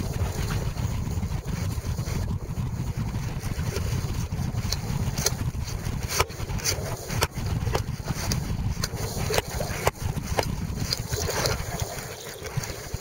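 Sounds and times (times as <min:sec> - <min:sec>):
water slapping against hull: 0:00.0 - 0:13.0
wind buffeting microphone: 0:00.0 - 0:13.0.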